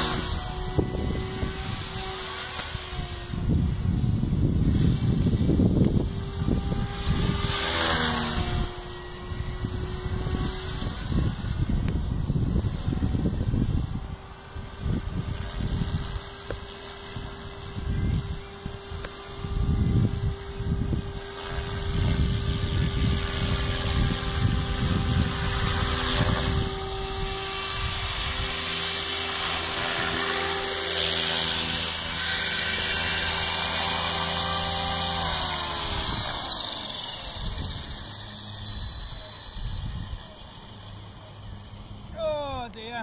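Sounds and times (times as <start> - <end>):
rc helicopter rotor drone: 0.0 - 43.0.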